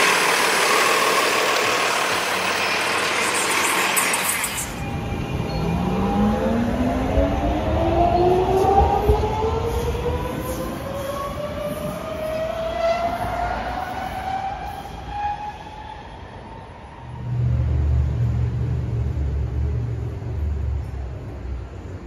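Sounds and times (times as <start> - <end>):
train traction motor whine: 0.0 - 21.8.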